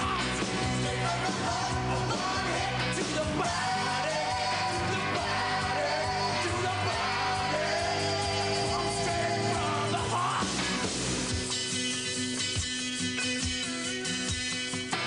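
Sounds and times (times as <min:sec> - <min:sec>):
rock music with singing: 0:00.0 - 0:15.0.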